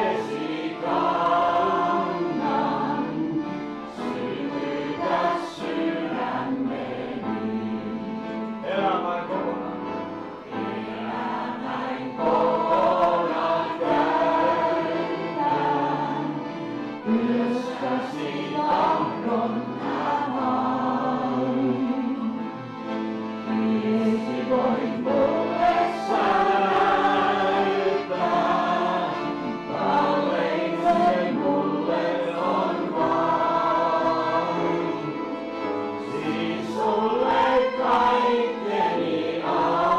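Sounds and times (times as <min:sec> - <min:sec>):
piano accordion: 0:00.0 - 0:39.9
upright piano: 0:00.0 - 0:39.9
voices singing: 0:00.0 - 0:39.9.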